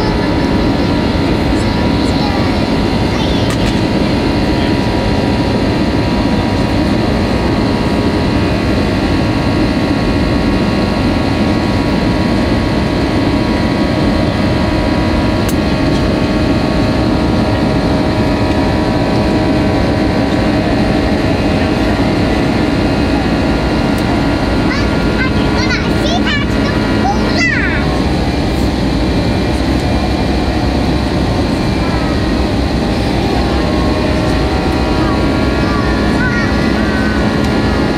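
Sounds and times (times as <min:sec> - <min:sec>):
jet engine cabin rumble: 0:00.0 - 0:37.9
steady whining tones: 0:00.0 - 0:37.9.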